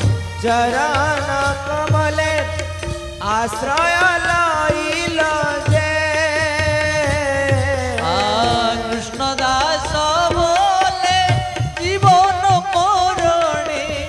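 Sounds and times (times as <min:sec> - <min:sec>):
drums beating: 0:00.0 - 0:14.0
instrumental accompaniment: 0:00.0 - 0:14.0.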